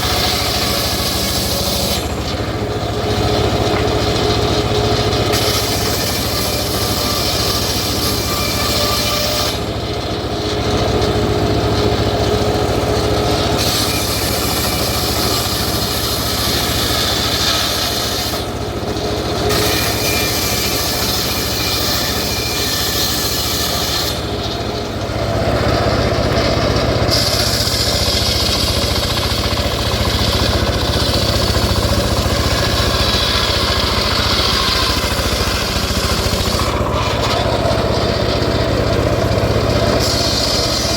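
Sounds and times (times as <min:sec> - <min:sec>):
engine drone: 0:00.0 - 0:40.9
saw blade rasping in wood: 0:00.0 - 0:40.9.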